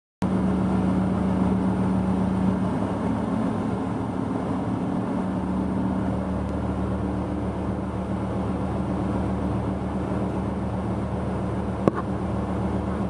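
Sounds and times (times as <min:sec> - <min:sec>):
engine room machinery drone: 0:00.2 - 0:13.0.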